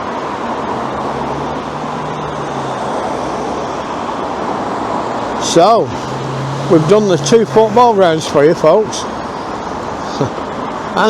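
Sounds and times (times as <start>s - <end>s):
low engine hum: 0.0s - 11.0s
passing cars: 0.0s - 11.0s.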